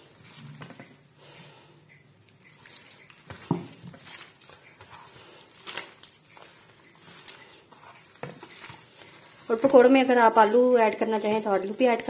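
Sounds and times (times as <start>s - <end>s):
hand mixing dough squishing: 0.0s - 12.0s.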